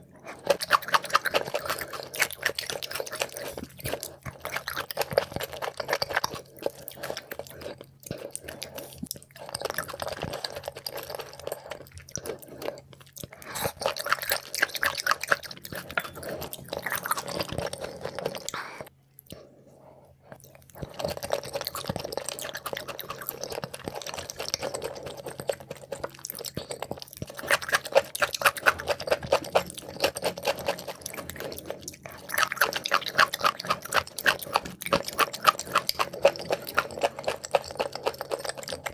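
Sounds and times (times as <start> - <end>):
close chewing: 0.0 - 19.4, 20.3 - 38.9.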